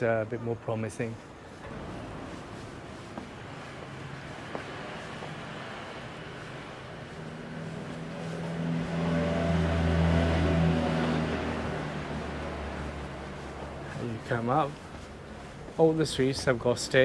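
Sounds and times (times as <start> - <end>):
vehicle engine passing by: 1.6 - 16.2.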